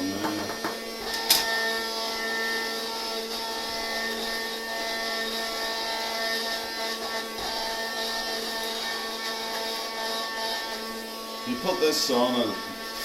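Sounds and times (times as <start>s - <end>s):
handheld vacuum motor whine: 0.0s - 13.0s.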